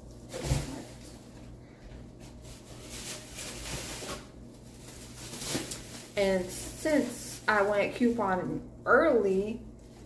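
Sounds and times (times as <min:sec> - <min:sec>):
plastic bag rustling: 0:00.0 - 0:08.6.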